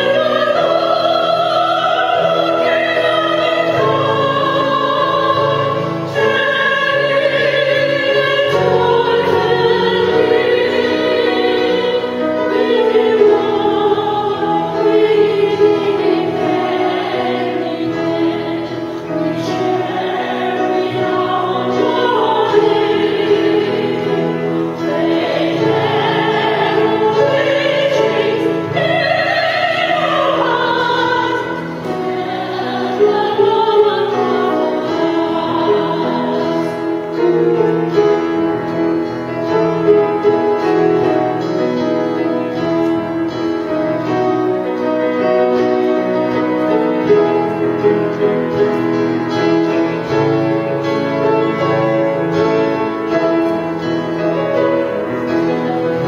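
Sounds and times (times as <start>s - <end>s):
people singing with vibrato: 0.0s - 56.0s
piano notes: 0.0s - 56.0s.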